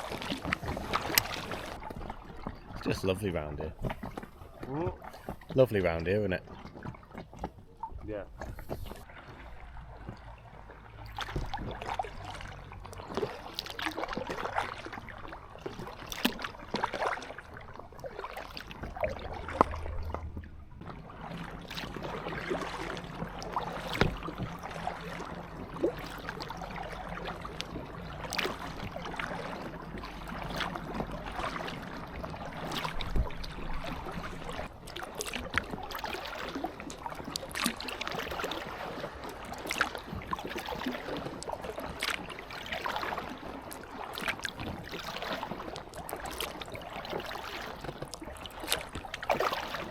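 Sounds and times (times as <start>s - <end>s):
paddle splashes and drips: 0.0s - 49.9s
water lapping against hull: 0.0s - 49.9s.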